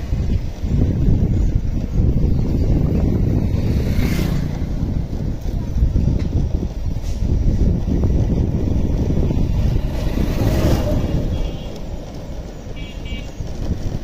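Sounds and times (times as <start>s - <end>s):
vehicle rumble: 0.0s - 14.0s
wind on microphone: 0.0s - 14.0s.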